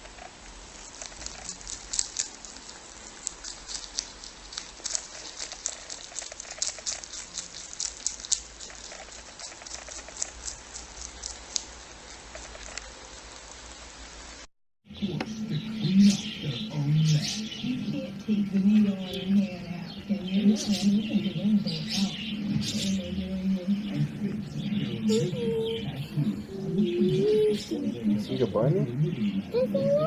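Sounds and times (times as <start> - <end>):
rabbit chewing greens: 0.0 - 28.4.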